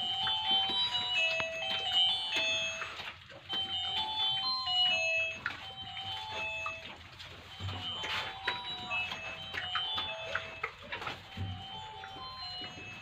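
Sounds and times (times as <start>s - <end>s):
chiming electronic melody: 0.0s - 13.0s.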